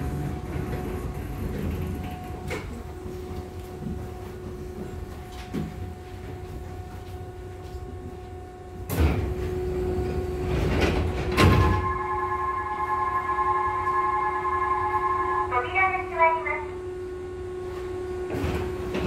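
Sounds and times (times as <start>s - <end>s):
low equipment hum: 0.0s - 19.0s
multi-tone whine: 0.0s - 19.0s.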